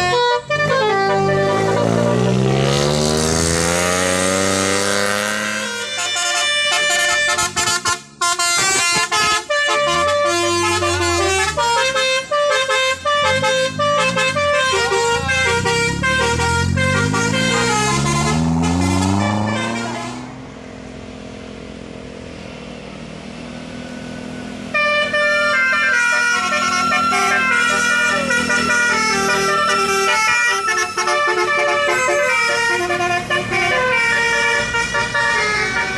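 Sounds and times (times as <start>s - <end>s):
musical air horns playing tunes: 0.0s - 20.3s, 24.7s - 35.9s.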